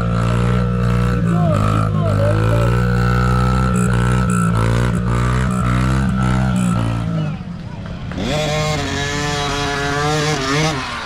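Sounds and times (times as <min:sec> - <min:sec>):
dirt bike engines revving: 0:00.0 - 0:11.0
low engine hum: 0:00.0 - 0:11.0.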